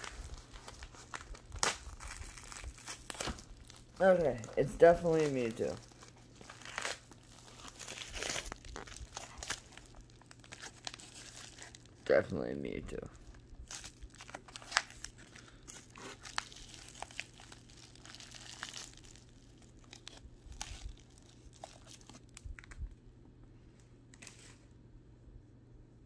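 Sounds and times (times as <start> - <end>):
plastic packaging crinkling and tearing: 0.0 - 12.3, 13.1 - 23.0, 24.1 - 24.6.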